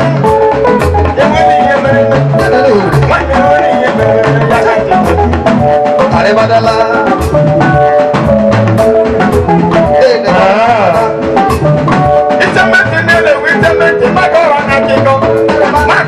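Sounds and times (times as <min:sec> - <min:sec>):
bongo drum beat: 0:00.0 - 0:16.0
layered melody: 0:00.0 - 0:16.0.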